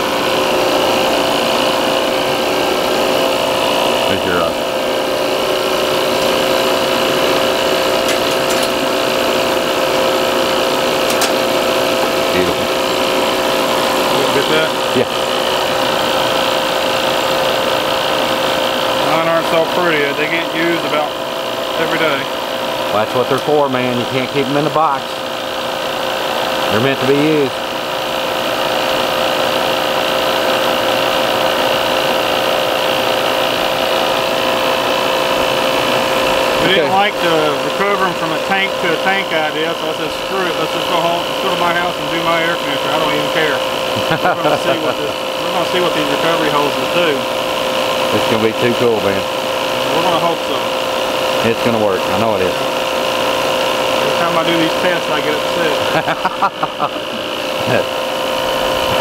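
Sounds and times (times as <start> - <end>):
machine humming with whine: 0.0 - 59.0.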